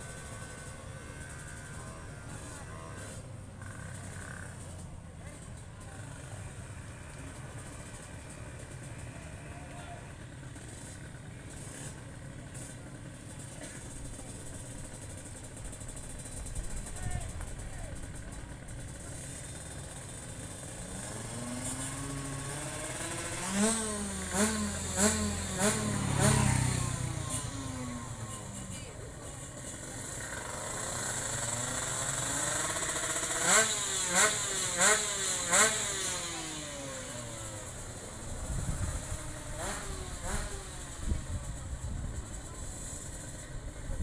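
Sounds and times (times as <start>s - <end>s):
drag bike engines revving: 0.0s - 44.0s.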